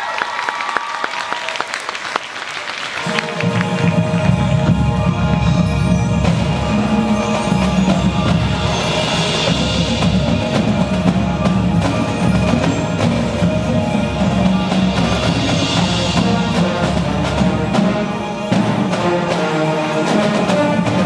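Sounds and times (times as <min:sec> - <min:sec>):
drums and percussion: 0:00.0 - 0:21.0.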